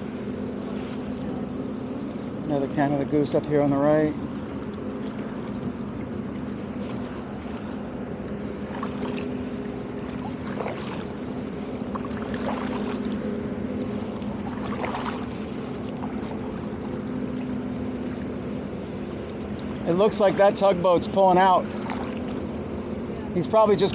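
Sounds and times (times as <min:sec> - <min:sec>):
diesel engine humming: 0:00.0 - 0:23.9
paddle splashes and drips: 0:03.6 - 0:22.8.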